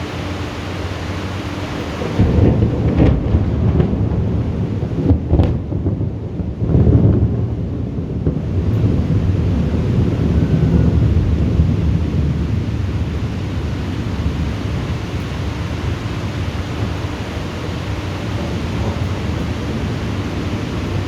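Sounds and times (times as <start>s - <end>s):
thunder rumbling: 0.0s - 21.0s.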